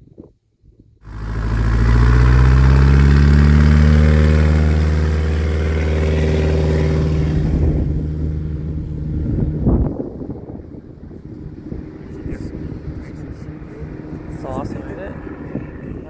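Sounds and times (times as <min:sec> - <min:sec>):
propeller plane engine taxiing: 0:01.0 - 0:16.0.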